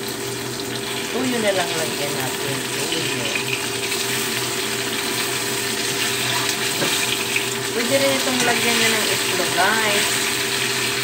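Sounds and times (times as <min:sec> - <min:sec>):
tofu sizzling in hot oil: 0:00.0 - 0:11.0.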